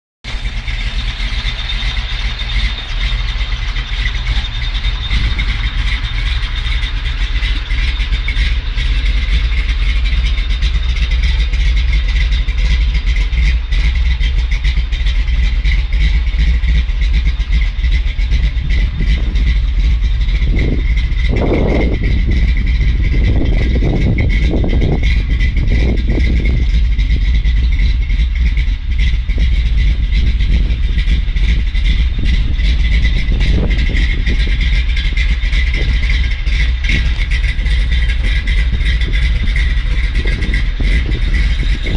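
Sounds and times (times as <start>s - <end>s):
v-eight engine rumbling and revving: 0.2s - 41.9s.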